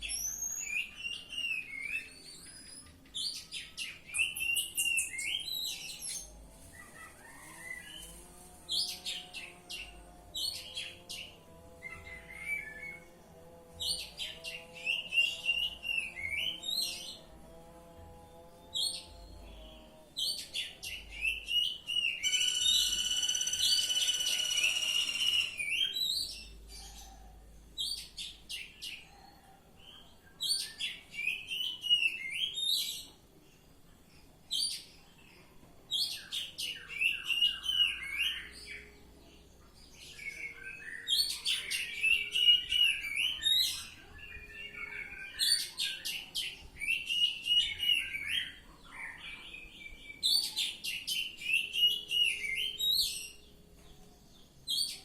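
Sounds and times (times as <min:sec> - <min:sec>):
bird singing chirps and trills: 0:00.0 - 0:17.5, 0:18.2 - 0:55.0.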